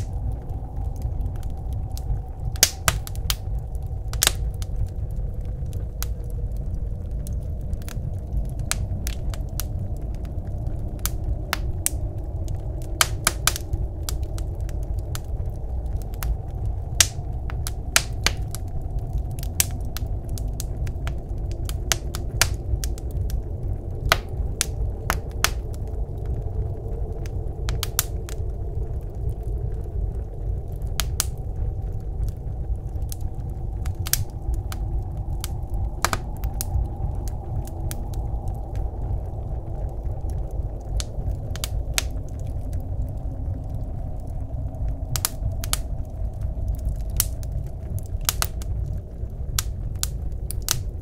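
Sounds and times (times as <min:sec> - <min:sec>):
low rumble of blizzard wind: 0:00.0 - 0:51.0
wood fire crackling and popping: 0:00.0 - 0:51.0.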